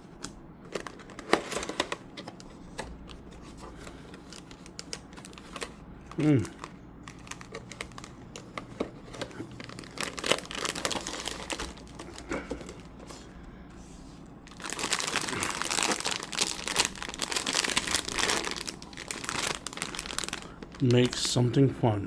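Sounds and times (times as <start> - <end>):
plastic wrapping crinkling: 0.7 - 13.3, 14.4 - 21.6.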